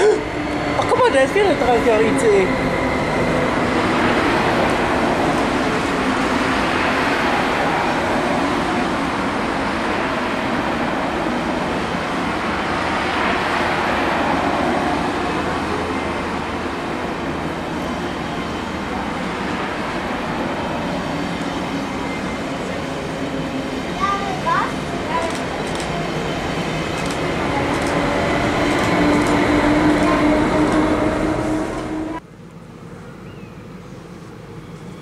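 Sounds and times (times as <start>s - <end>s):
train wheels rushing on rails: 0.0s - 32.2s
train low hum: 0.0s - 35.0s.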